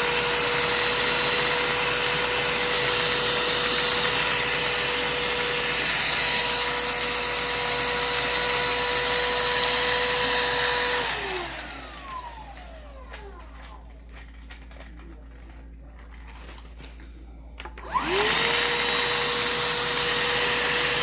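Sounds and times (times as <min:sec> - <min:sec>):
handheld vacuum motor whine: 0:00.0 - 0:14.0, 0:17.6 - 0:21.0.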